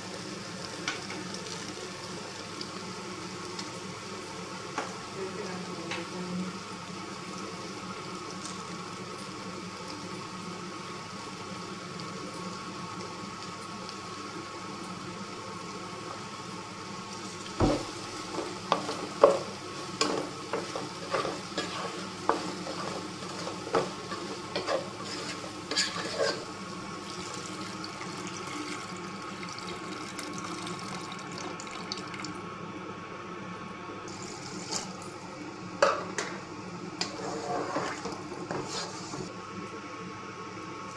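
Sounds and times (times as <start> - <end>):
vegetables sizzling in a pot: 0.0 - 40.9.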